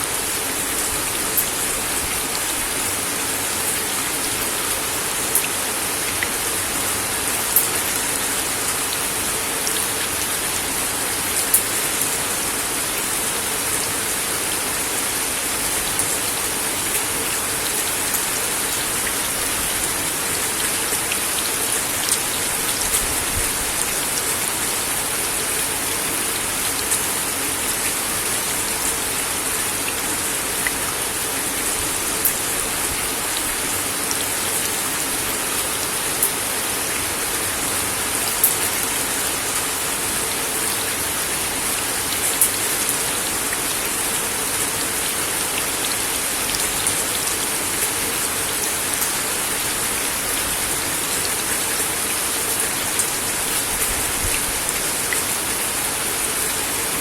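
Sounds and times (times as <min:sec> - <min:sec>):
rain on wooden deck: 0:00.0 - 0:57.0.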